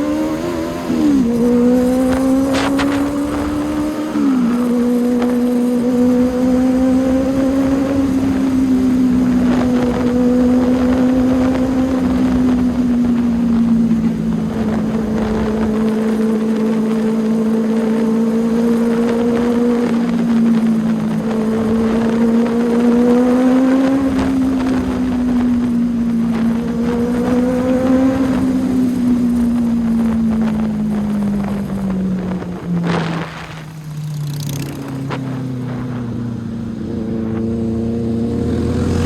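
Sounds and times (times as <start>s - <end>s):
motorcycle engine at high revs: 0.0s - 39.0s
wind noise on microphone: 0.0s - 39.0s.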